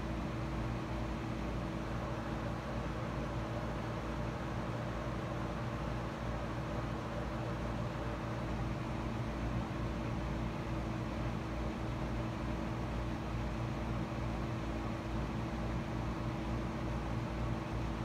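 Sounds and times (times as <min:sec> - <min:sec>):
steady hum and hiss: 0:00.0 - 0:18.0.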